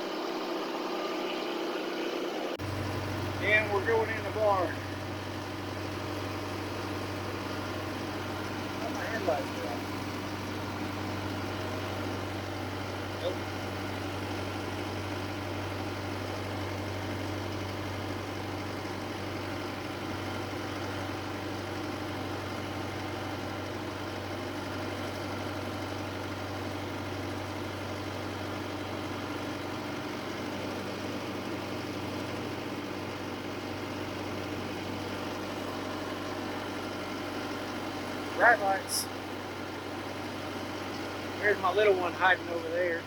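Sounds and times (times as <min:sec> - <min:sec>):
vehicle engine running low: 0:00.0 - 0:43.0.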